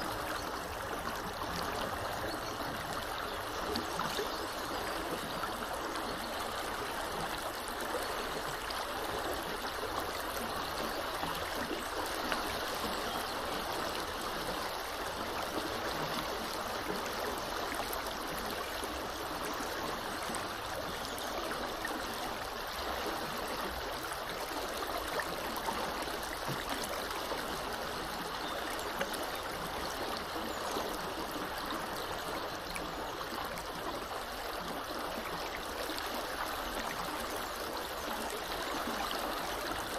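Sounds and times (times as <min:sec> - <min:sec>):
river water rushing and gurgling: 0:00.0 - 0:39.9.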